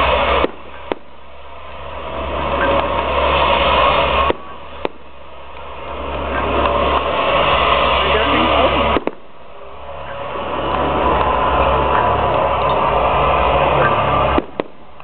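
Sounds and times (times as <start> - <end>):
firework bangs: 0.0 - 15.0
sharp firework cracks: 0.0 - 15.0
steady noisy background: 0.0 - 15.0.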